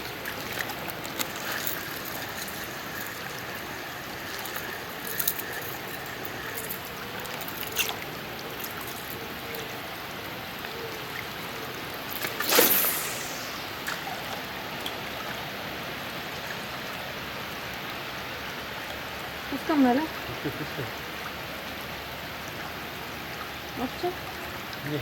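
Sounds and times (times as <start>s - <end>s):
river water running: 0.0s - 25.0s.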